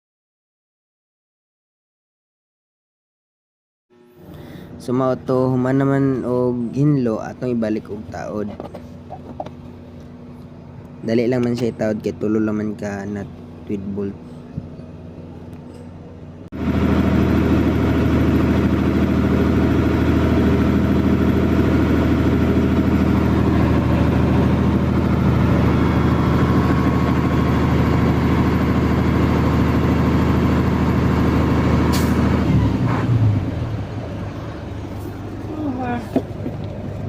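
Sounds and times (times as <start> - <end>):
diesel truck engine running: 4.0 - 37.0.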